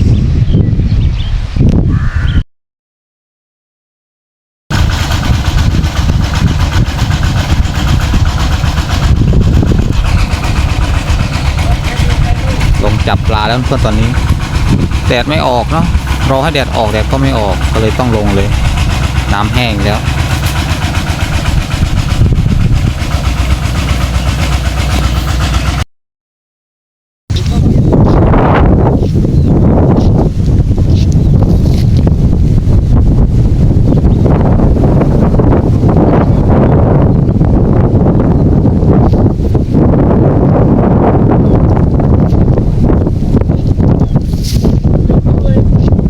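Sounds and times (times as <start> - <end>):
small engine running loudly: 4.7 - 25.9, 27.3 - 46.0.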